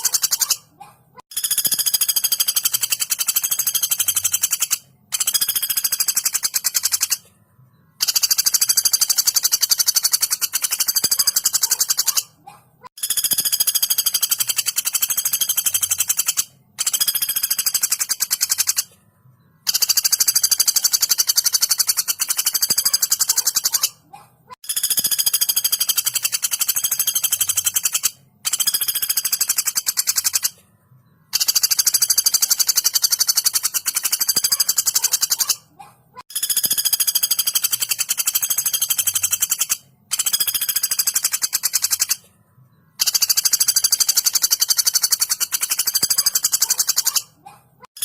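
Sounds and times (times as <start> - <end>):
woodpecker rattling call: 0.0 - 7.3, 8.0 - 19.0, 19.6 - 30.6, 31.3 - 42.3, 43.0 - 48.0.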